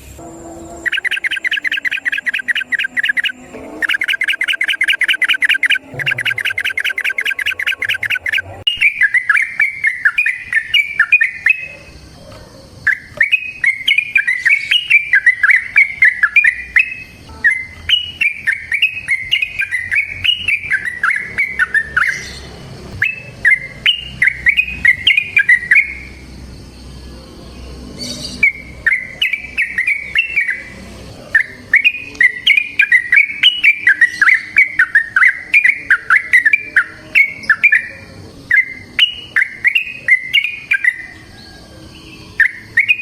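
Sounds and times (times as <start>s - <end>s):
bird singing trills and chatter: 0.0s - 43.0s.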